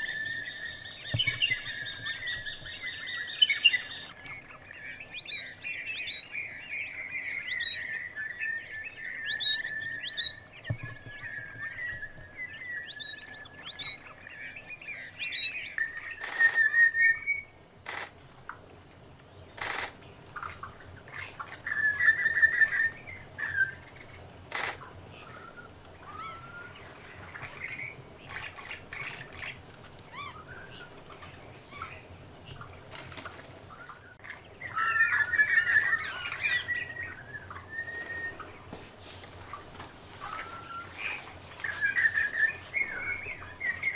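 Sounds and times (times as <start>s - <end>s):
birds trilling and whistling: 0.0s - 18.2s, 19.3s - 43.9s.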